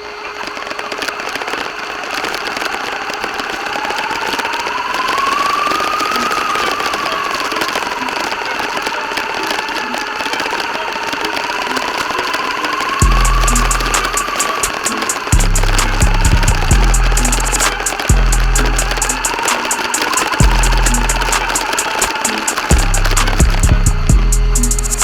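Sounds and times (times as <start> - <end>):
rattling hiss: 0.0 - 25.0
remote control car motor whine: 0.0 - 25.0.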